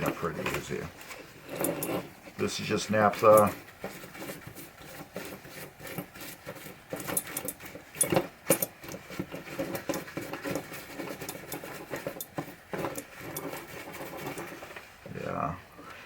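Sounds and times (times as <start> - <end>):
scratchy scrubbing: 0.0 - 15.6.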